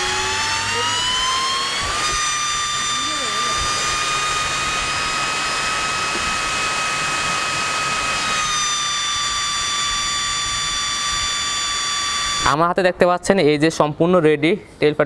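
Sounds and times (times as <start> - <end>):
computer fan whining: 0.0 - 12.8.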